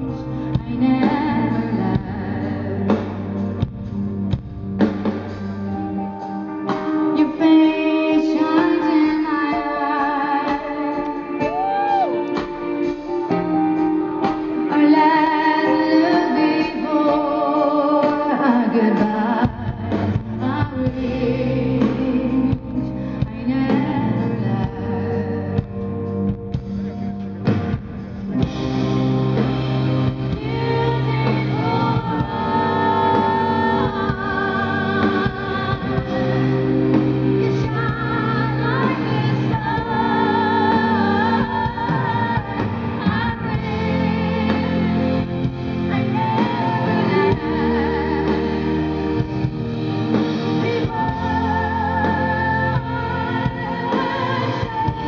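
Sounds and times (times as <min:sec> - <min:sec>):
woman singing lead: 0:00.0 - 0:04.3, 0:05.6 - 0:26.6, 0:28.3 - 0:55.0
live rock band: 0:00.0 - 0:55.0.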